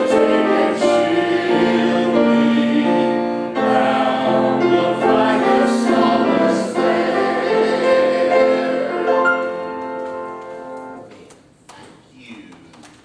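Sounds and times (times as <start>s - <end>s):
congregation singing a hymn: 0.0s - 11.1s
piano accompaniment: 0.0s - 11.3s.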